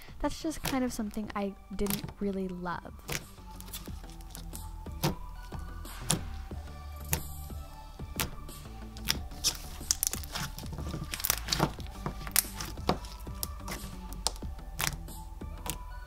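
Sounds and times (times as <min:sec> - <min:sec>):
soft background music: 0:00.0 - 0:16.0
slime clicking and popping: 0:01.8 - 0:02.2, 0:03.0 - 0:15.9.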